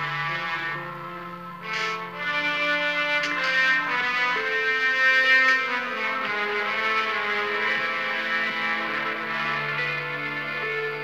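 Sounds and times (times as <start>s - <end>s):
orchestral music with held chords: 0.0s - 11.0s.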